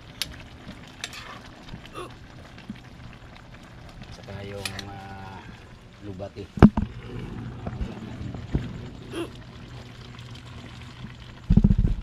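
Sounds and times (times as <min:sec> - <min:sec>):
liquid simmering in wok: 0:00.0 - 0:12.0.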